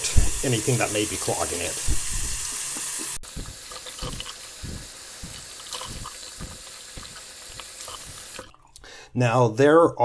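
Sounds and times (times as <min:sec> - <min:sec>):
faucet water flushing through pipe: 0:00.0 - 0:08.6.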